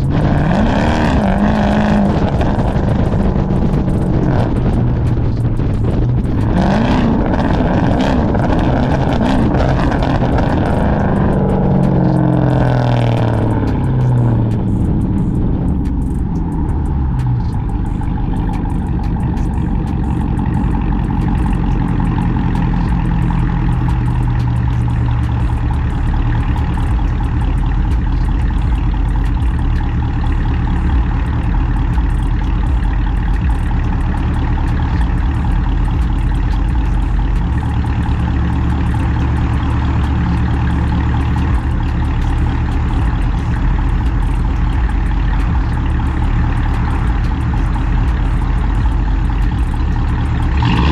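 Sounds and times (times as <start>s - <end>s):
loud vee eight exhaust running: 0.0s - 50.9s.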